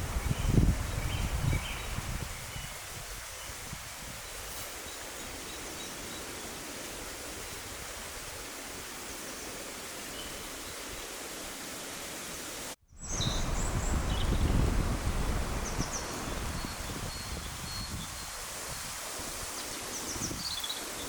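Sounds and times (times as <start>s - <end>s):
outdoor rushing hiss: 1.6s - 21.0s.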